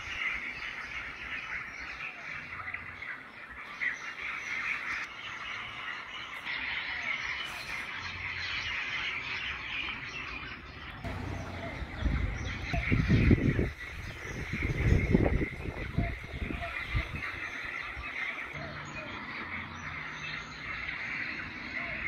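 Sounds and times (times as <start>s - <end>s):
chorus of small animals chirping: 0.0s - 22.0s.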